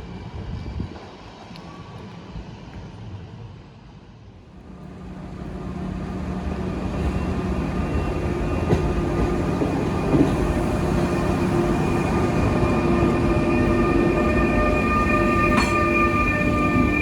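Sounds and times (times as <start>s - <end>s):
electric train rumbling on rails: 0.0s - 17.0s.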